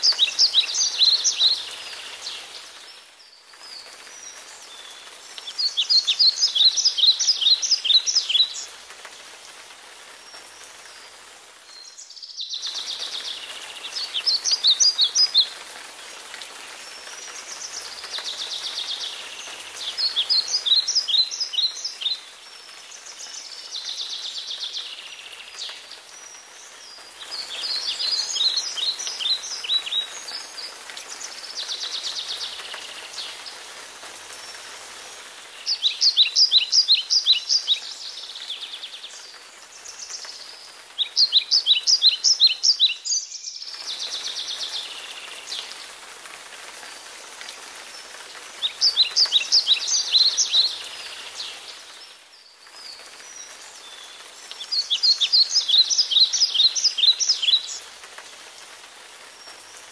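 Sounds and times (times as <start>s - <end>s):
rain falling: 0.0s - 59.9s
songbird singing: 0.0s - 59.9s.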